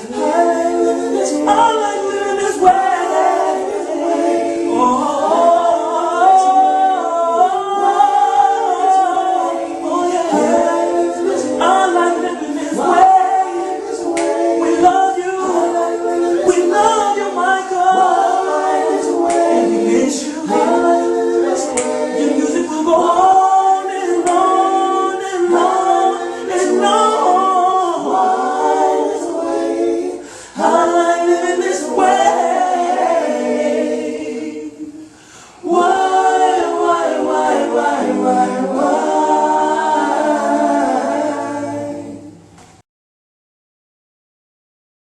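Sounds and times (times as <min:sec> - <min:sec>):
vocal group singing in harmony: 0:00.0 - 0:42.8.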